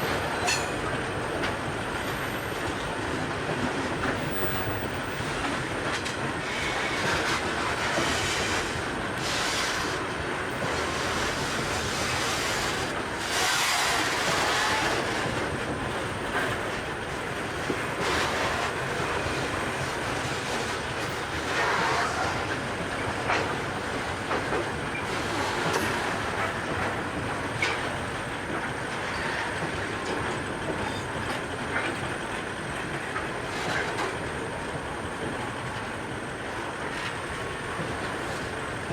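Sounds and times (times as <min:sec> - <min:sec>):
train wheels clattering over rail joints: 0:00.0 - 0:38.9.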